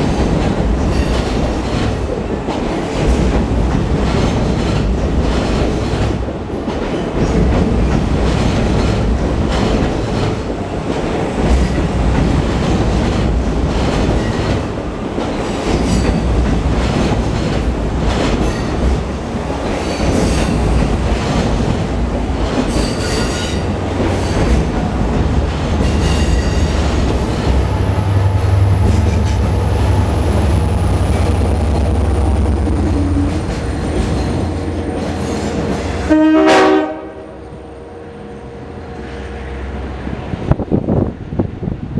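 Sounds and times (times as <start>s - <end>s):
clickety-clack over rail joints: 0.0s - 37.1s
train wheels rumbling on rail: 0.0s - 41.9s.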